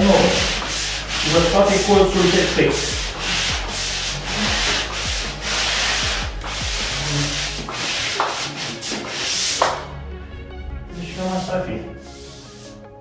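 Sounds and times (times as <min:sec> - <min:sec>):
sanding block rasping on plaster: 0:00.0 - 0:09.8, 0:11.0 - 0:12.8.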